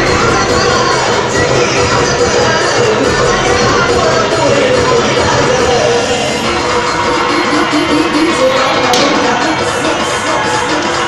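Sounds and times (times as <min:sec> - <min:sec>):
large crowd noise: 0:00.0 - 0:11.0
loud music playing: 0:00.0 - 0:11.0.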